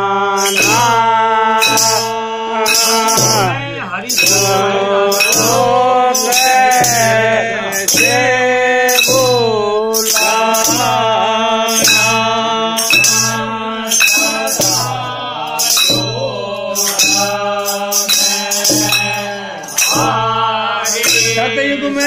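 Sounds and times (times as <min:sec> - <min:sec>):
jingling percussion: 0:00.0 - 0:22.0
men singing together: 0:00.0 - 0:22.0
hand drum beat: 0:00.4 - 0:22.0.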